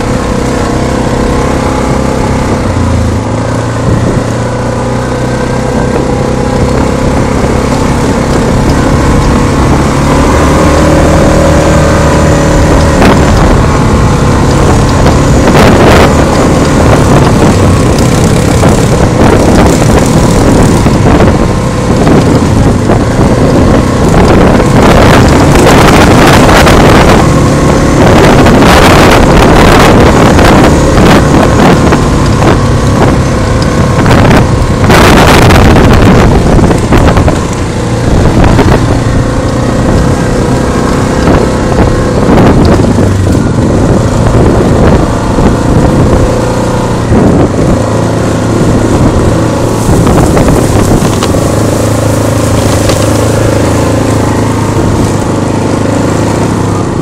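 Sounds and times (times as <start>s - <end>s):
atv engine revving: 0.0s - 57.0s
knocks and rattles over bumps: 0.0s - 57.0s
wind buffeting microphone: 0.0s - 57.0s.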